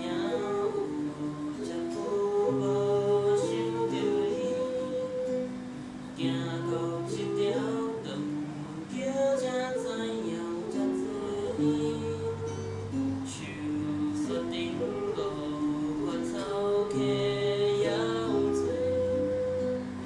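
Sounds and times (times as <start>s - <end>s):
fingerpicked acoustic guitar: 0.0s - 20.0s.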